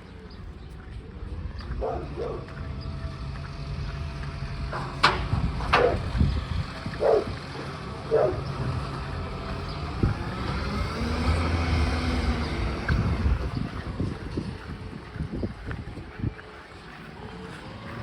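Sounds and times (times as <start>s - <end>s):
garbage truck engine rumble: 0.0s - 18.0s.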